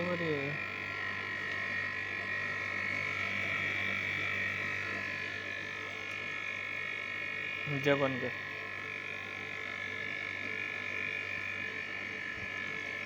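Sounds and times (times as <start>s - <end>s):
air conditioner compressor humming: 0.0s - 13.0s.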